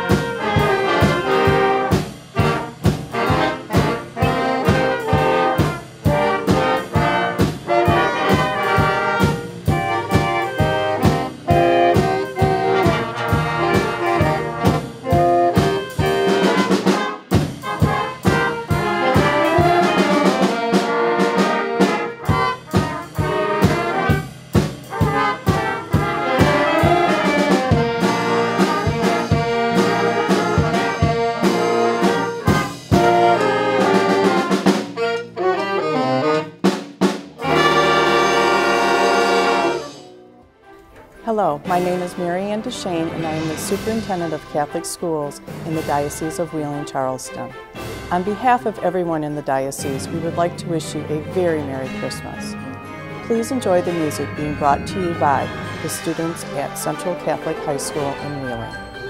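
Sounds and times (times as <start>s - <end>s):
brass playing a tune: 0.0s - 36.7s, 37.3s - 59.0s
steady drum beat: 0.0s - 40.0s, 41.6s - 49.1s.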